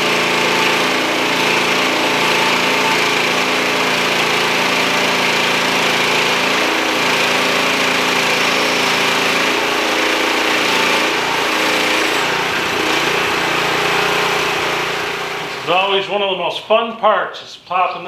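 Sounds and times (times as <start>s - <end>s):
band sawmill sawing log: 0.0s - 16.6s.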